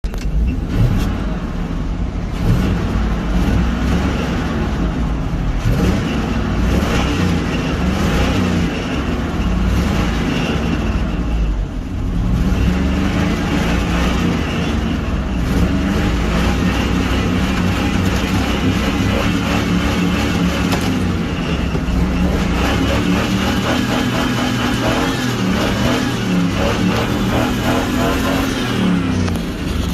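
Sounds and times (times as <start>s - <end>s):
pickup truck engine revving: 0.6s - 29.9s.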